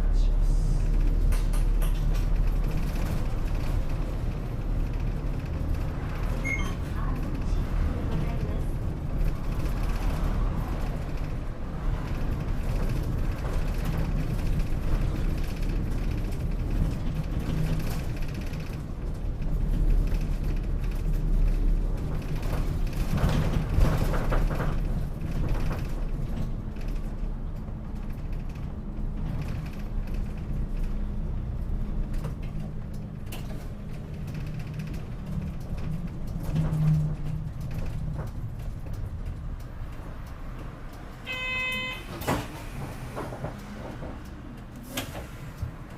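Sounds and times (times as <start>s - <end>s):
bus engine rumbling: 0.0s - 45.9s
interior panels rattling and creaking: 0.8s - 45.9s.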